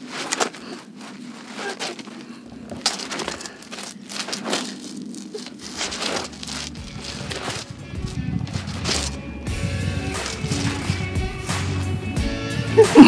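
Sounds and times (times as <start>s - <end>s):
shoes and hands scuffing on rock: 0.0s - 12.3s.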